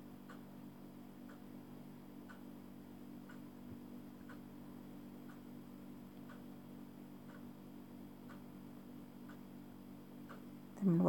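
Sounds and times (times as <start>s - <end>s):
steady low hum: 0.0s - 11.0s
clock ticking faintly: 0.2s - 11.0s.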